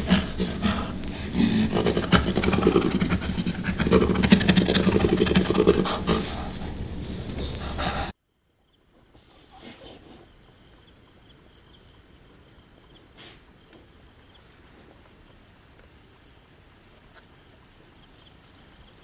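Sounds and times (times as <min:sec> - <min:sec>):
faint pulsing insect chirp: 0:00.0 - 0:19.0
insects trilling: 0:00.0 - 0:19.0.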